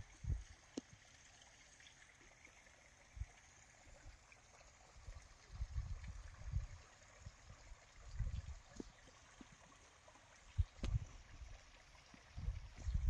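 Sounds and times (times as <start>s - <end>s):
faint running stream: 0.0s - 13.0s.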